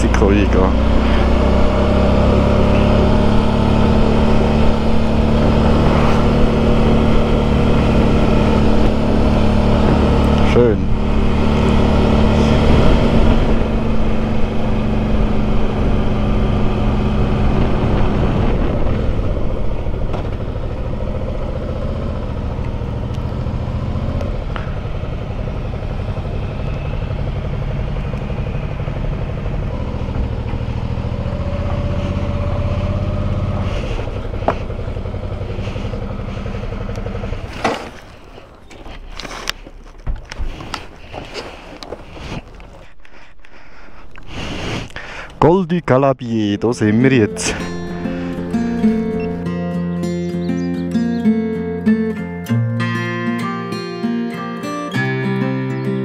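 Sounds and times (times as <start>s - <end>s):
motorcycle engine running: 0.0s - 52.4s.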